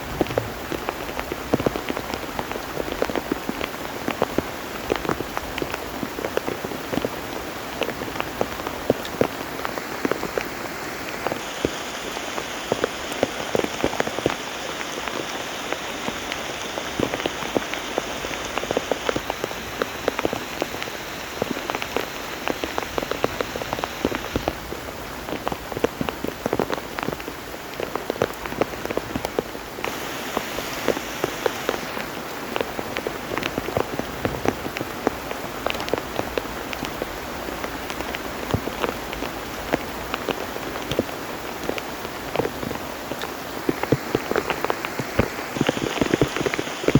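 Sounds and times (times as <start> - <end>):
heavy rain: 0.0 - 46.9
raindrops hitting close by: 0.0 - 46.9.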